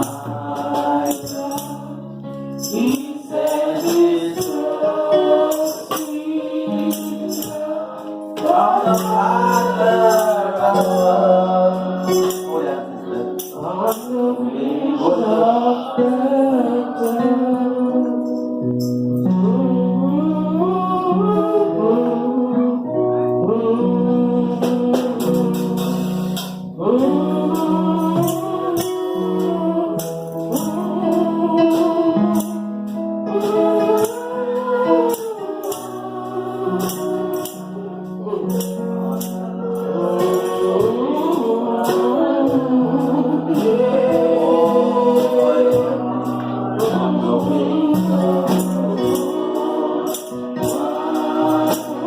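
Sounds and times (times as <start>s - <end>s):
tambourine shaken: 0.0s - 14.3s, 18.2s - 19.3s, 25.2s - 52.0s
congregation singing a hymn: 0.0s - 52.0s
keyboard accompaniment: 0.0s - 52.0s.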